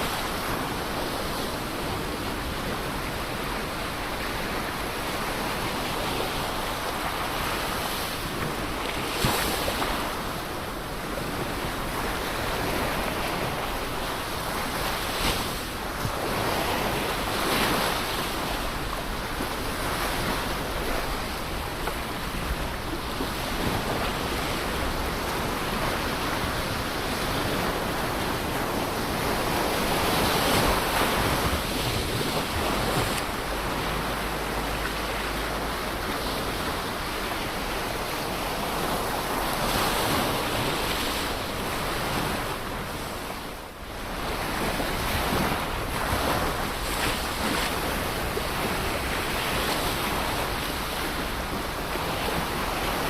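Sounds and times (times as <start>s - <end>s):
ocean waves breaking on shore: 0.0s - 53.0s
wind buffeting microphone: 0.0s - 53.0s.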